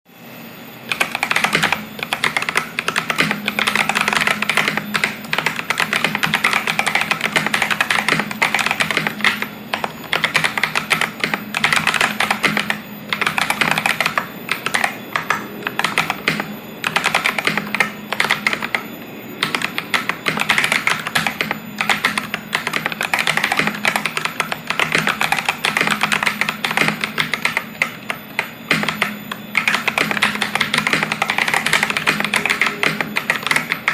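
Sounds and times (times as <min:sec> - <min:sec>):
fast typing on mechanical keyboard: 0:00.9 - 0:18.8, 0:19.4 - 0:33.9.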